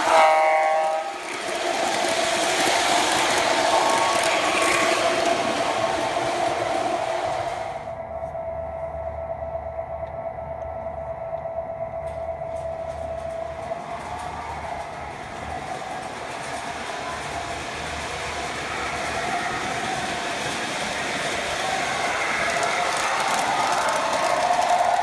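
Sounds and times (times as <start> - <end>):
model train running on track: 0.0 - 8.2, 12.0 - 25.0.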